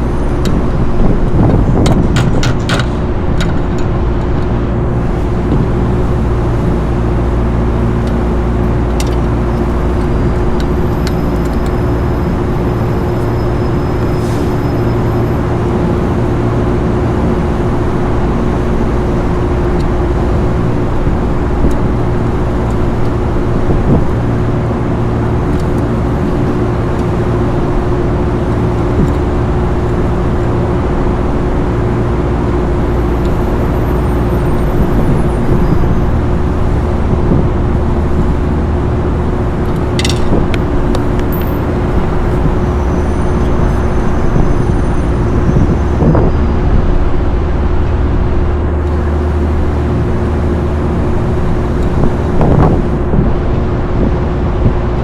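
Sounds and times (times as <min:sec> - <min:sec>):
machine drone: 0:00.0 - 0:55.0.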